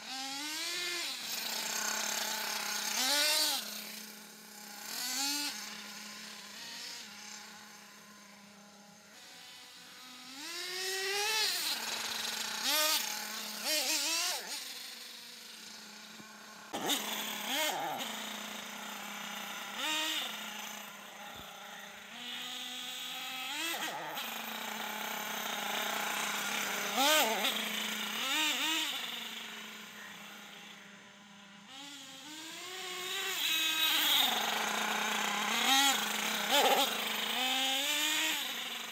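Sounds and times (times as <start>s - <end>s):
rc car engine revving: 0.0s - 38.9s.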